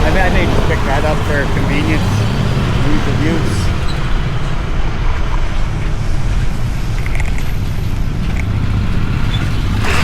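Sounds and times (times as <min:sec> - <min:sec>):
wind buffeting microphone: 0:00.0 - 0:09.9
road noise: 0:00.0 - 0:10.0.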